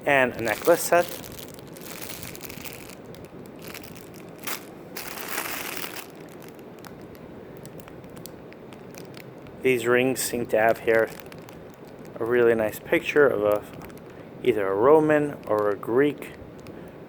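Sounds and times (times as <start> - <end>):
packaging crinkling: 0.1 - 16.7.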